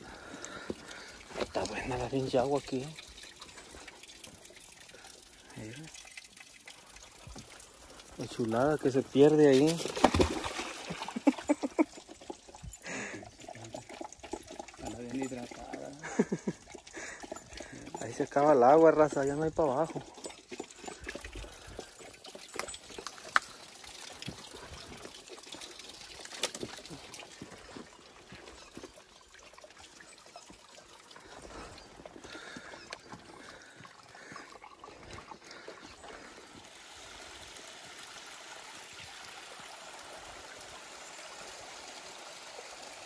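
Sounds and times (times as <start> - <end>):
stream trickling over rocks: 0.0 - 43.0.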